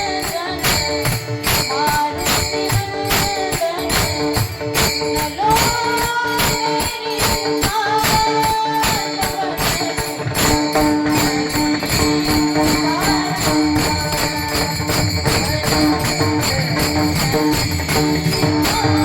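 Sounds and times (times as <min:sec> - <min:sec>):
jingling metal percussion: 0:00.0 - 0:19.0.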